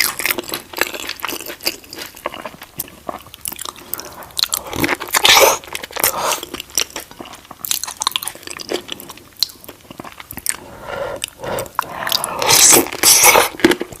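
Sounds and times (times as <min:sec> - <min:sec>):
chewing crunchy shrimp: 0:00.0 - 0:14.0.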